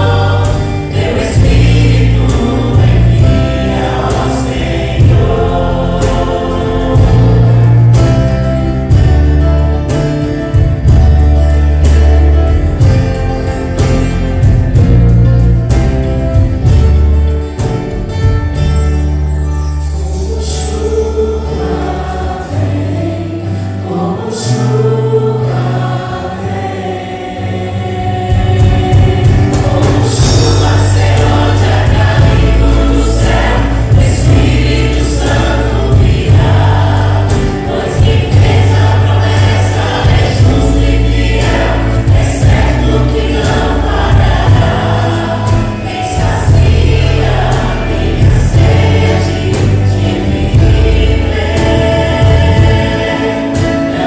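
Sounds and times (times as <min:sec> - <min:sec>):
drum beats: 0:00.0 - 0:19.3, 0:28.2 - 0:54.0
bass: 0:00.0 - 0:54.0
choir singing gospel: 0:00.0 - 0:54.0.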